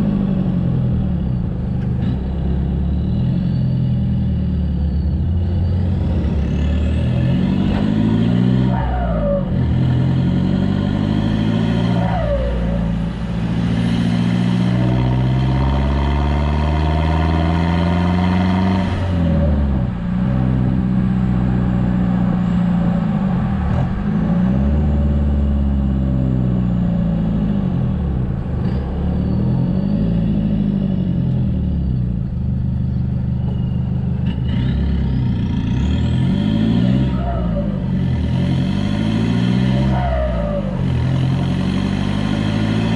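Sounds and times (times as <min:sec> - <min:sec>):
diesel engine driving under load: 0:00.0 - 0:42.9.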